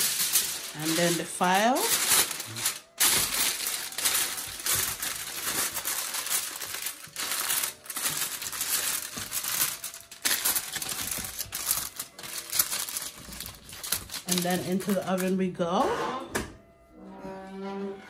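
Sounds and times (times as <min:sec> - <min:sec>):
aluminium foil crinkling: 0:00.0 - 0:15.6.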